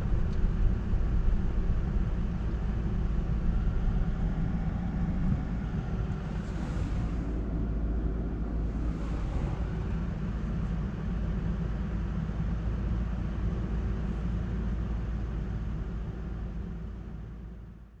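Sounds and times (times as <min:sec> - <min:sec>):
tyre and road rumble in car: 0:00.0 - 0:17.9.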